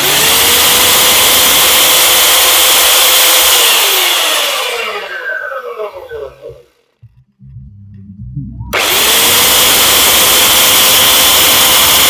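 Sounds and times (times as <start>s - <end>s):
belt sander whining and spinning down: 0.0s - 7.0s, 8.7s - 12.0s.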